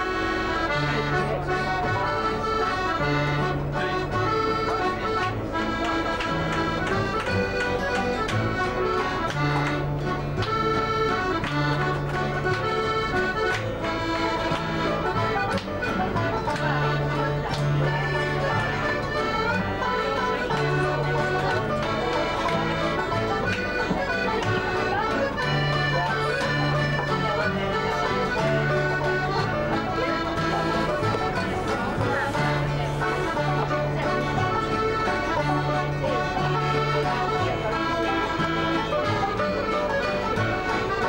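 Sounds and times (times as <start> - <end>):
banjo: 0.0 - 41.0
strummed guitar: 0.0 - 41.0
sustained melody line: 0.0 - 41.0
walking bass line: 0.0 - 41.0.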